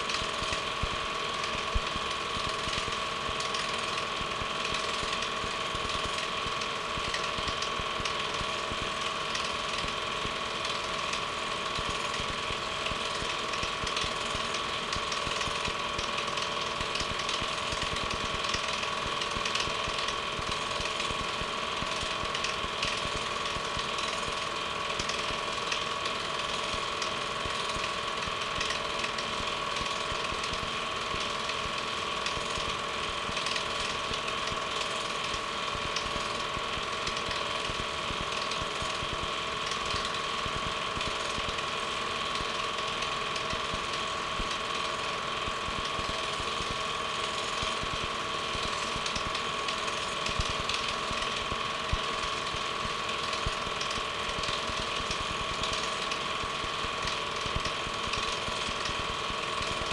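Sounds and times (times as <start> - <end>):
projector mechanical clatter: 0.0 - 59.9
projector whine: 0.0 - 59.9.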